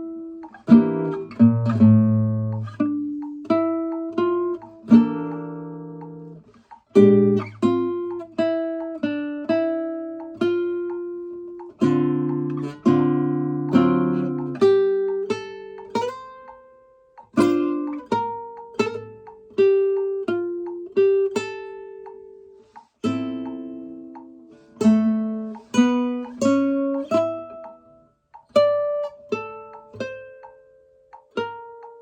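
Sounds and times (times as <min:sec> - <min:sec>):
acoustic guitar played: 0:00.0 - 0:32.0.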